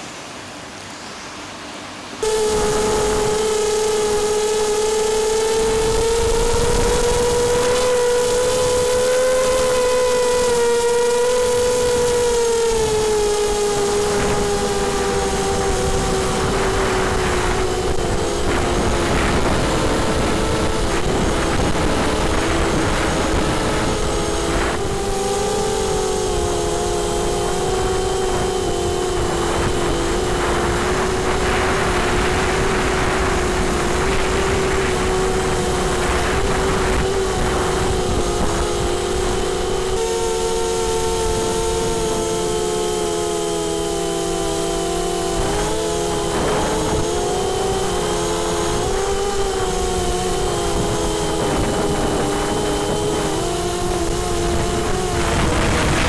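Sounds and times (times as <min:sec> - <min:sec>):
drone motors whining: 0:02.2 - 0:56.0.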